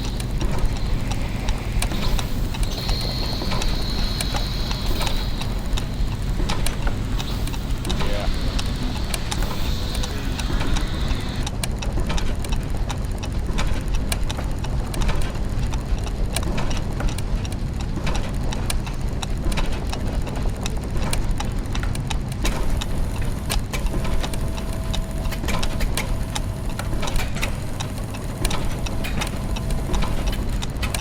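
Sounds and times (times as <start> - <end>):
gears and ratchets ticking: 0.0 - 31.0
low mechanical hum: 0.0 - 31.0.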